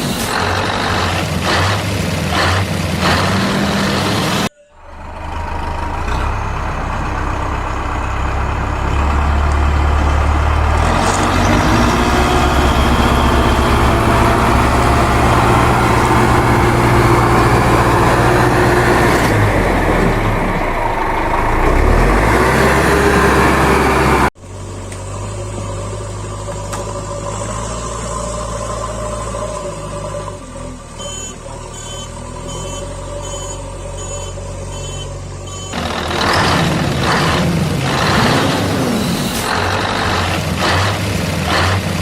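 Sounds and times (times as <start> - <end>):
heavy vehicle engine rumbling: 0.0 - 42.0.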